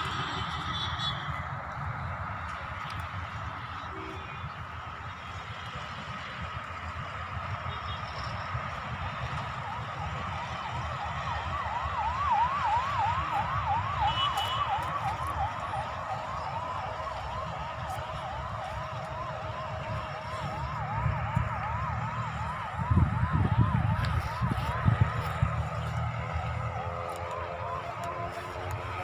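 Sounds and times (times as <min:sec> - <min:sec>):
electronic siren wailing: 0:00.0 - 0:01.7, 0:07.4 - 0:29.0.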